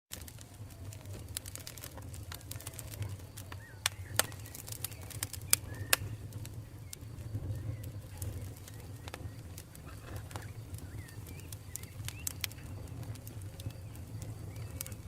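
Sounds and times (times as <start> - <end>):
campfire pops and snaps: 0.1 - 15.0
low rumble of flames: 0.1 - 15.0
faint bird chirps: 2.6 - 15.0.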